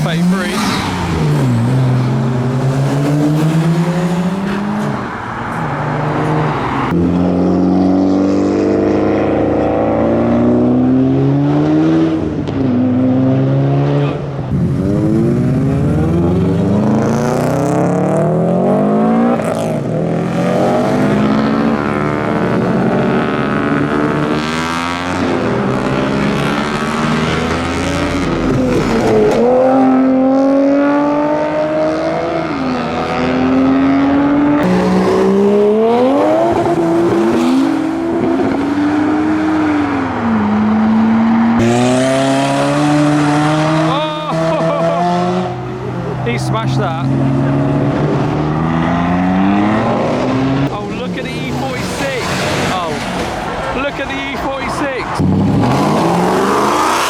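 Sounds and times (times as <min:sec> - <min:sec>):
cars accelerating: 0:00.0 - 0:57.0.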